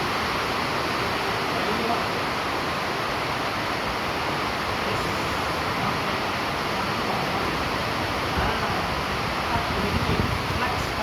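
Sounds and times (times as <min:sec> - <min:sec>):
rain falling steadily: 0:00.0 - 0:11.0.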